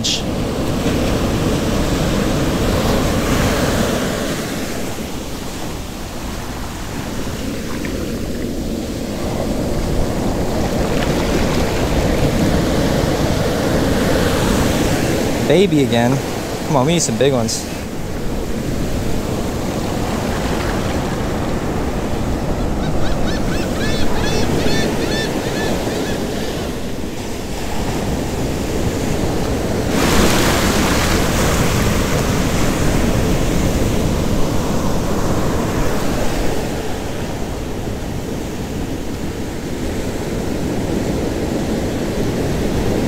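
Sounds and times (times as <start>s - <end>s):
surf washing over sand: 0.0s - 43.0s.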